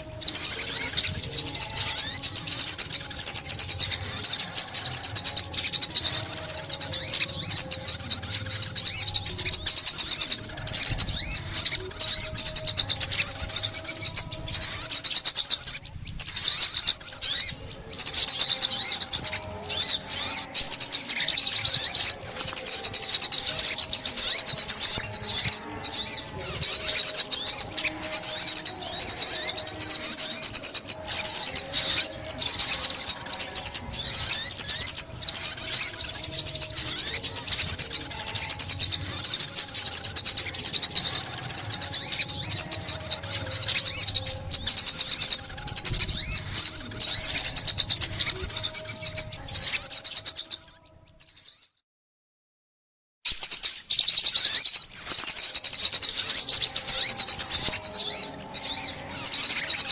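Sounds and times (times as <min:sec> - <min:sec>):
bird twittering trills: 0:00.0 - 0:51.8, 0:53.2 - 0:59.9.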